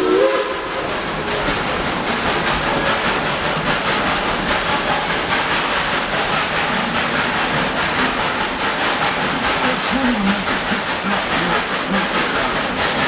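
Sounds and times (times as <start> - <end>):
steam hissing: 0.0 - 13.0
steam locomotive chuffing: 0.0 - 13.0.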